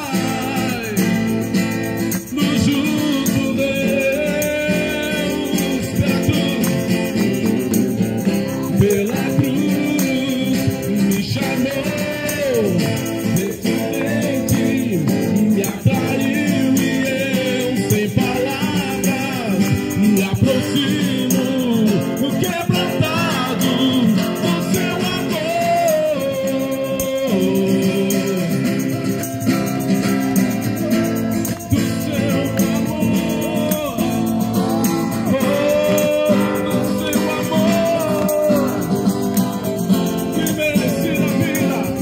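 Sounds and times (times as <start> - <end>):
christian worship song: 0.0 - 42.0.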